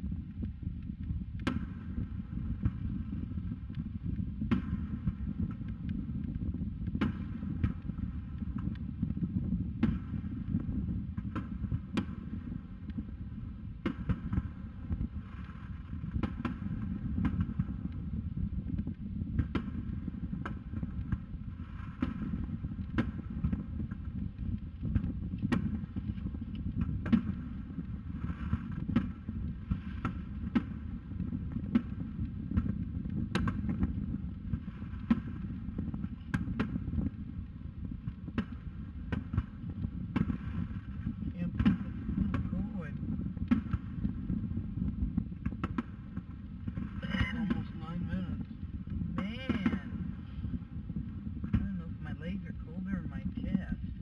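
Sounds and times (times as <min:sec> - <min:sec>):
low rumble: 0:00.0 - 0:54.0
distant firework booms: 0:01.2 - 0:52.3.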